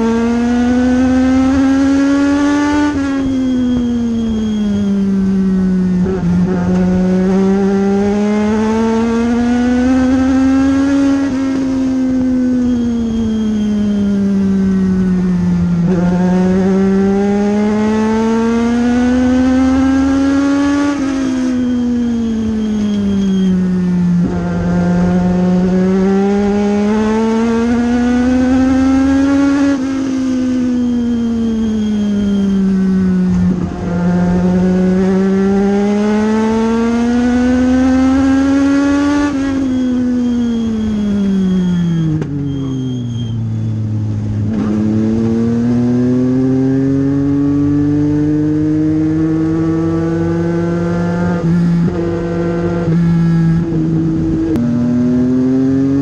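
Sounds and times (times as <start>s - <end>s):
race car engine revving: 5.4s - 56.0s.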